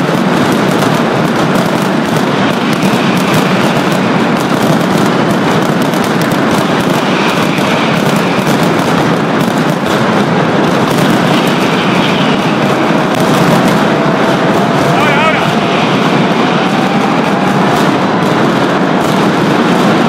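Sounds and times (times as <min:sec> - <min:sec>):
firecrackers barrage: 0:00.0 - 0:20.0.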